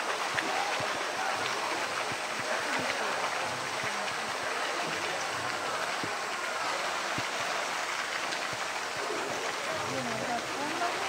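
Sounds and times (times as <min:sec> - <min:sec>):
murmur of crowd voices: 0:00.0 - 0:11.0
water rushing and lapping: 0:00.0 - 0:11.0.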